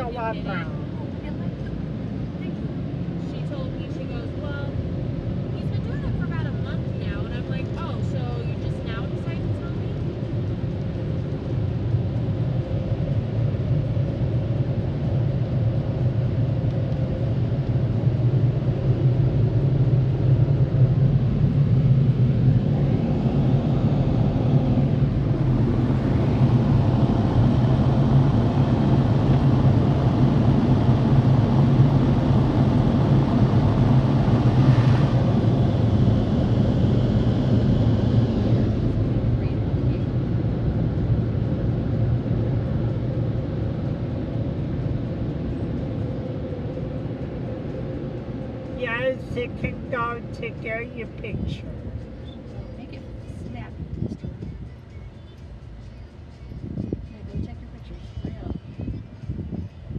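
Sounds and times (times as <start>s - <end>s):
car wash machinery rumbling: 0.0s - 53.6s.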